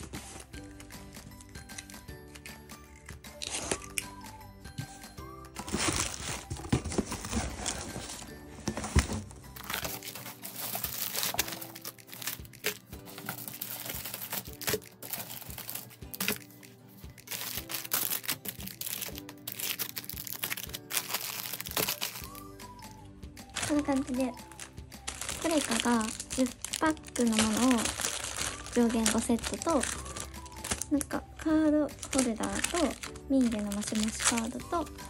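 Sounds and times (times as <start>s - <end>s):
background music: 0.0s - 35.0s
plastic packaging crinkling: 5.6s - 22.5s, 23.5s - 35.0s.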